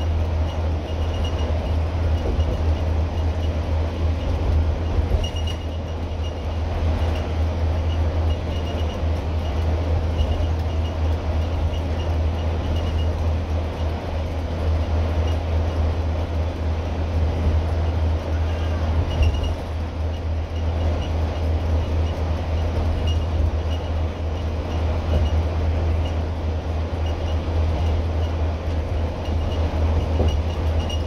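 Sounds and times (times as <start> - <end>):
bus diesel engine droning: 0.0 - 31.0
road and tyre noise: 0.0 - 31.0.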